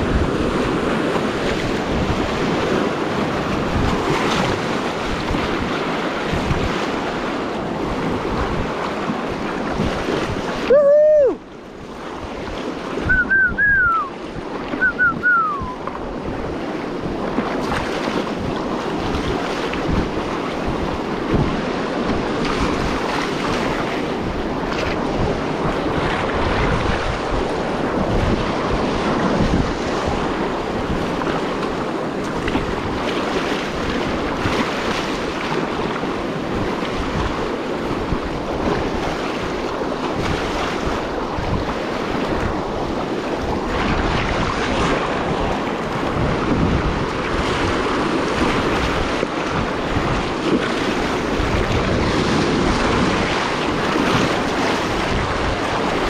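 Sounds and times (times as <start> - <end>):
river current rushing: 0.0 - 21.8, 22.4 - 56.0
wind buffeting microphone: 0.0 - 56.0.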